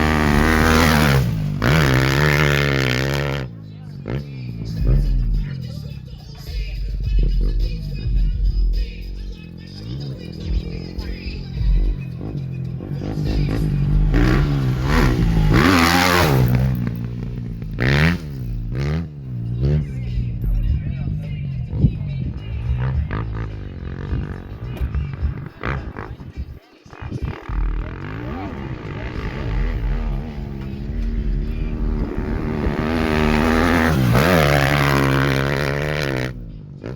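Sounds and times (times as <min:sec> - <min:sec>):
dirt bike engine revving: 0:00.0 - 0:05.8, 0:06.6 - 0:36.9.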